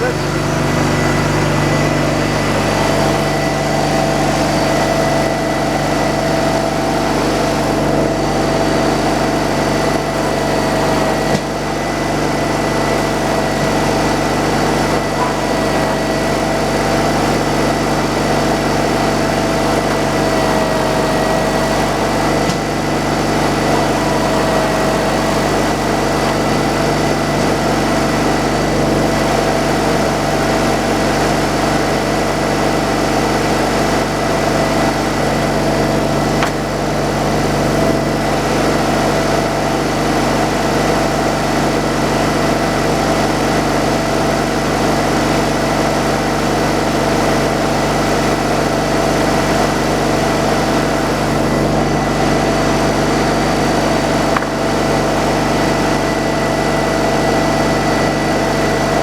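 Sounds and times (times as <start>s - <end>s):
sawmill engine whining: 0.0s - 59.0s.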